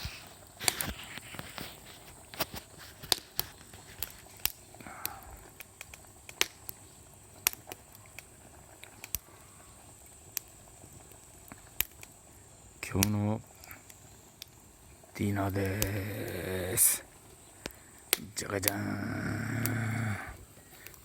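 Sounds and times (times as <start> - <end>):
campfire crackling and popping: 0.0 - 21.0
faint hiss: 0.0 - 21.0.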